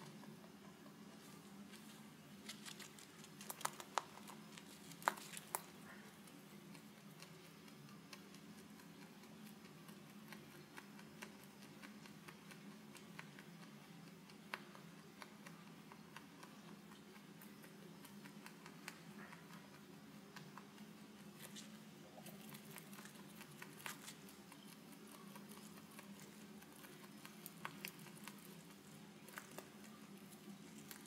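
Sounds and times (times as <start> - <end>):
rabbit chewing hay: 0.0 - 31.0.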